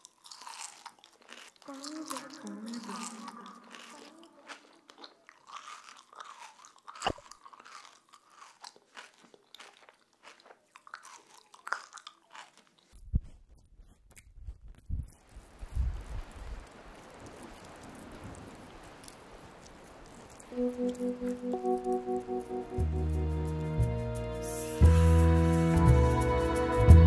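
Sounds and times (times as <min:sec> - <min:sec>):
irregular crunching and crackling: 0:00.0 - 0:23.7.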